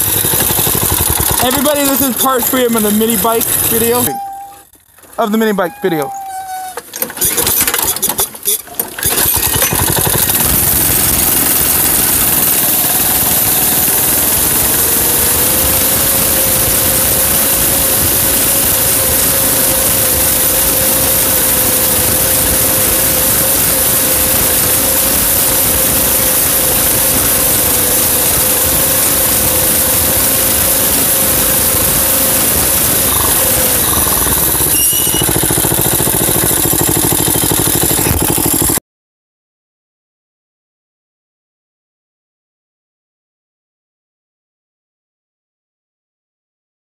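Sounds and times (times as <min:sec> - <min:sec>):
mini bike engine running: 0:00.0 - 0:06.0, 0:06.9 - 0:38.8.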